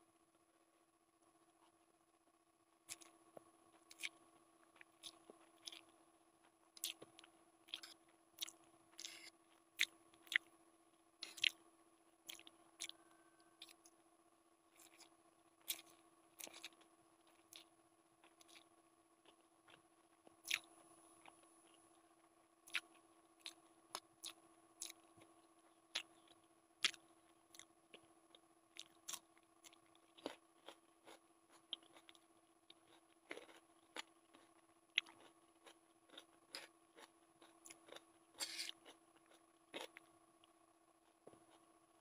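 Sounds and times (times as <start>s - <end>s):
faint steady hum: 0.0s - 42.0s
chewing and crunching food: 2.6s - 42.0s.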